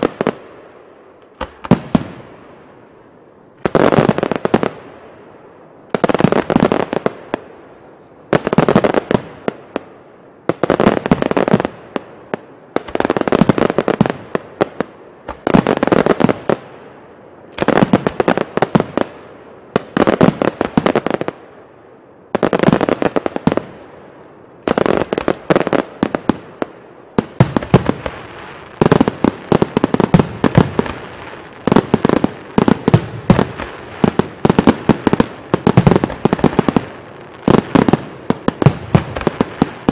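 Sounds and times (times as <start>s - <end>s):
fireworks bangs and crackles: 0.0s - 2.9s, 3.5s - 39.9s.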